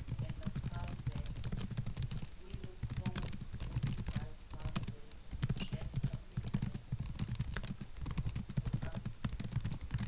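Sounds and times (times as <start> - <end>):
rapid typing on keyboard: 0.0 - 10.0.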